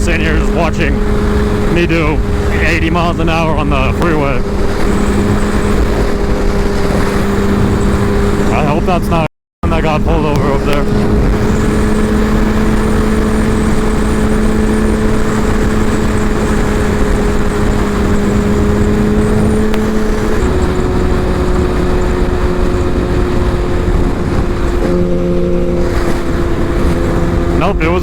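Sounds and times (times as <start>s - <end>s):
motorcycle engine cruising: 0.0s - 28.0s
wind rush: 0.0s - 28.0s.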